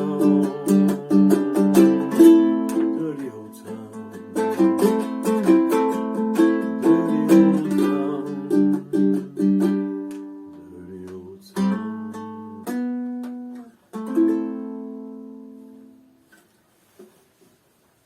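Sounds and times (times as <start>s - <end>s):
ukulele chords strummed: 0.0s - 16.4s.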